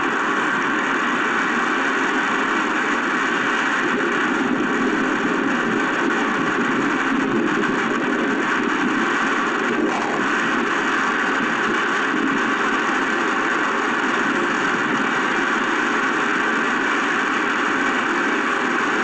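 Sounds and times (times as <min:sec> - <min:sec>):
storm wind: 0:00.0 - 0:19.0.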